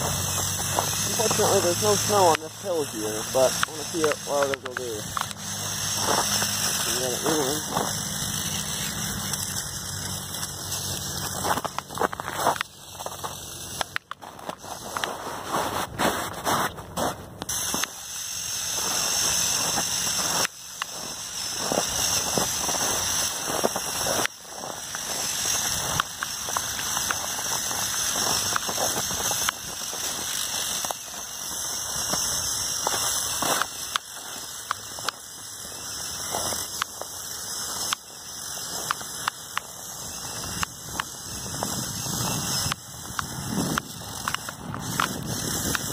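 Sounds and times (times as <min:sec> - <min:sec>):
snow crunching under tracks: 0:00.0 - 0:45.9
toy motors driving tracks: 0:00.0 - 0:45.9.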